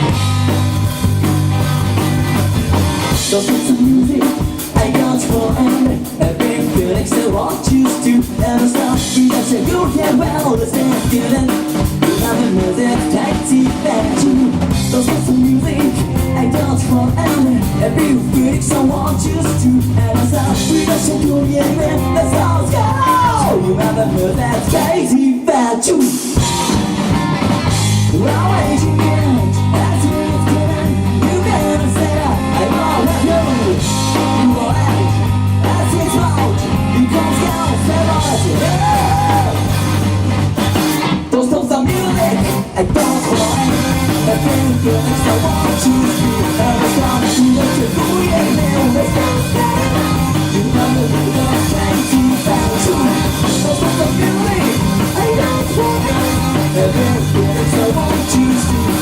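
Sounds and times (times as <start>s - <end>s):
steady bass line: 0.0s - 25.1s, 26.4s - 59.0s
live rock band playing: 0.0s - 59.0s.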